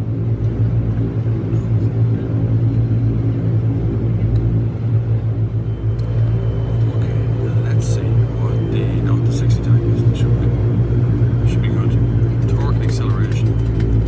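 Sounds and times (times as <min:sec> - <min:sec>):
turboprop cabin drone: 0:00.0 - 0:14.0.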